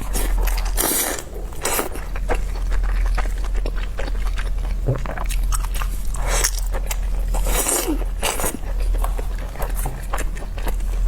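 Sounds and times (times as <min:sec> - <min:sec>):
chewing with mouth clicks: 0:00.0 - 0:11.0.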